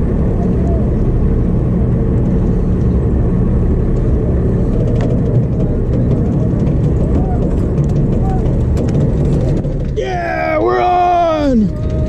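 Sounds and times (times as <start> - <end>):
boat engine droning: 0.0 - 12.0
water noise: 0.0 - 12.0
wind: 0.0 - 12.0.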